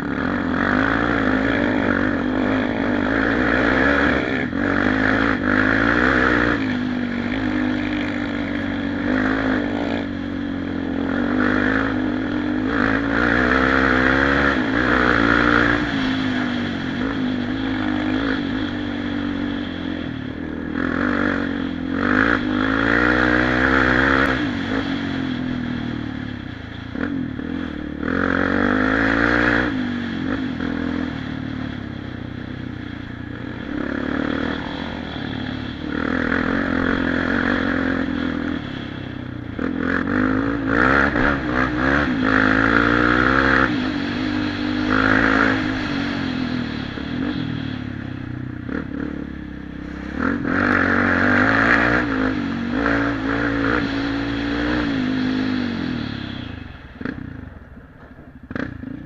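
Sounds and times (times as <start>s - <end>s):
quad engine revving: 0.0s - 57.6s, 58.5s - 59.0s.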